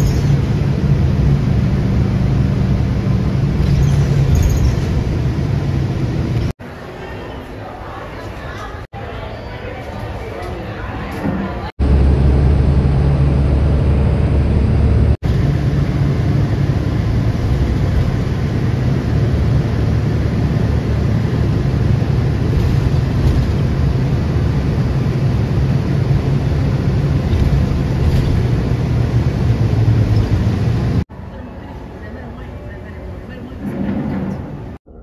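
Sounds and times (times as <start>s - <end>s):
vehicle engine rumble: 0.0s - 6.8s, 10.6s - 35.0s
road noise: 0.0s - 34.8s.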